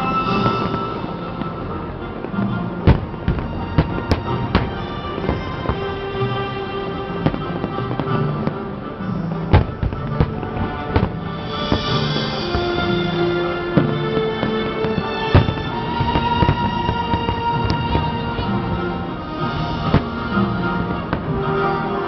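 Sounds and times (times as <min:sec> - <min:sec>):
background music: 0:00.0 - 0:22.0
fireworks bangs: 0:00.0 - 0:22.0.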